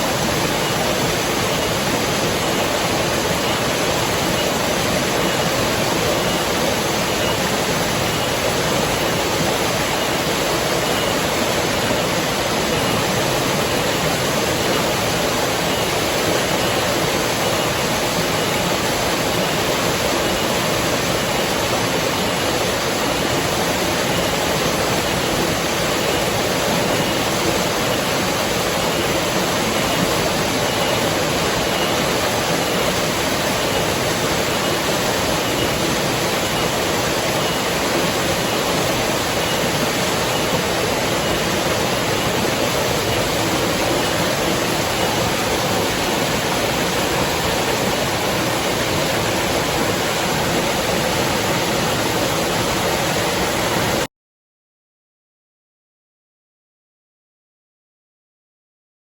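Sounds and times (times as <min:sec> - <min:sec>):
river water rushing: 0:00.0 - 0:54.1.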